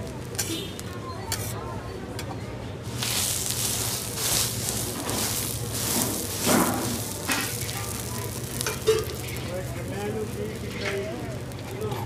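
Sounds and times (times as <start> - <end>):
bread sizzling on a griddle: 0.0 - 1.6, 2.8 - 12.0.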